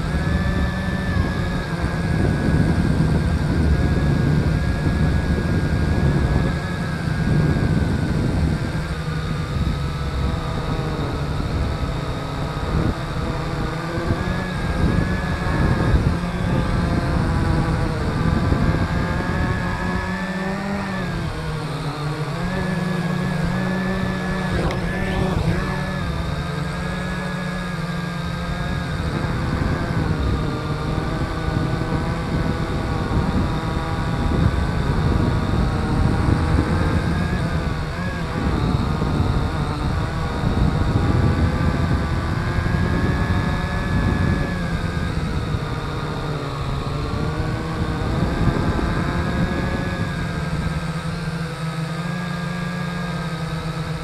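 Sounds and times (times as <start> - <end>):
drone propellers whining: 0.0 - 54.0.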